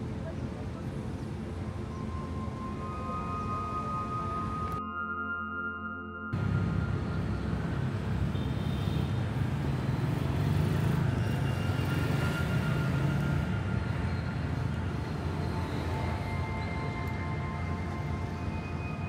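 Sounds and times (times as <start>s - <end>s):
city traffic rumble: 0.0s - 4.8s, 6.3s - 19.0s.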